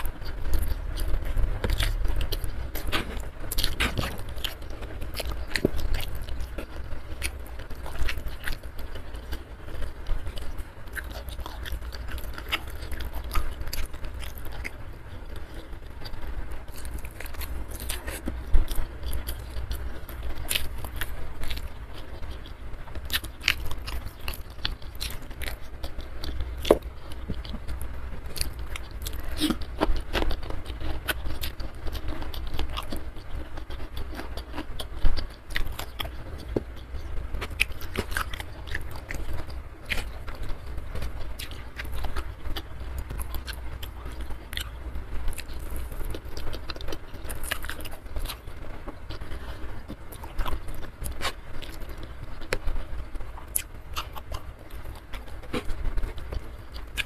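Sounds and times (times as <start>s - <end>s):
person chewing and biting: 0.0s - 57.0s.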